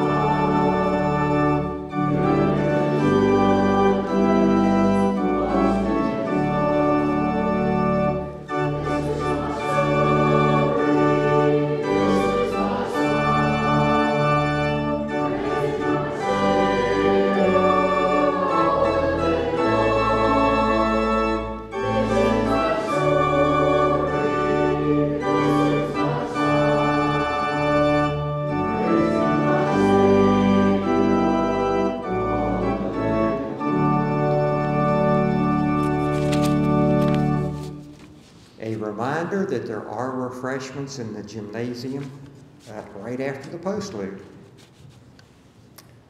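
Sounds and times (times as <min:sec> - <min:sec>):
church organ chords: 0:00.0 - 0:40.9.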